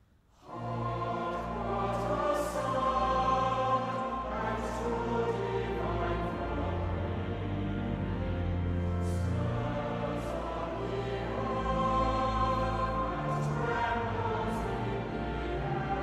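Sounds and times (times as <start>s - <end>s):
choir singing a hymn: 0.4s - 16.0s.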